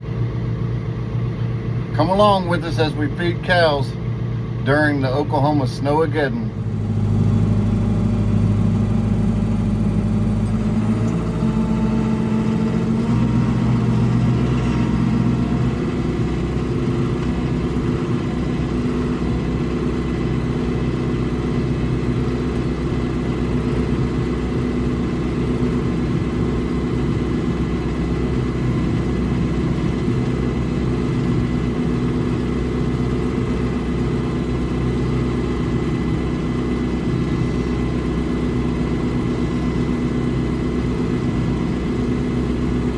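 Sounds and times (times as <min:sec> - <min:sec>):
vehicle engine running: 0:00.0 - 0:42.9.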